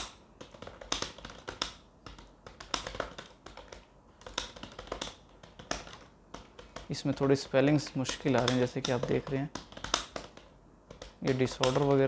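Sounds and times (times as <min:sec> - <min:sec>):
computer keyboard typing: 0:00.0 - 0:12.0.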